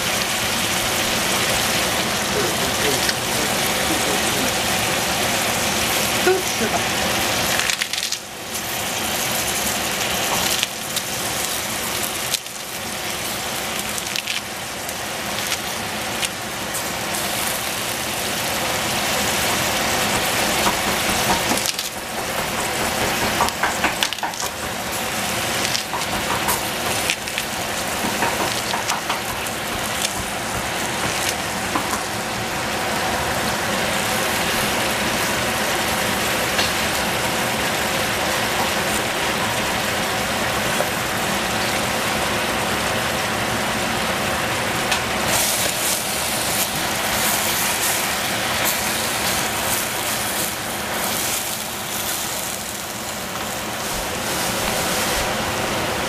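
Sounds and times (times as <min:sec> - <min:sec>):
vegetables sizzling in pan: 0:00.0 - 0:56.0.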